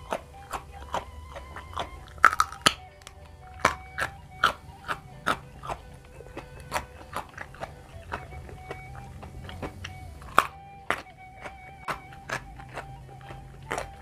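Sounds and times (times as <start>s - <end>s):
crunchy chewing of vegetables: 0.0s - 14.0s
soft background music: 0.0s - 14.0s.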